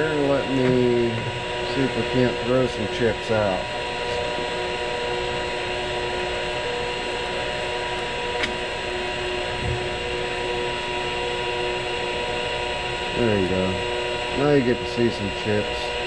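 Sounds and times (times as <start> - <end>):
milling machine hum: 0.0 - 16.0.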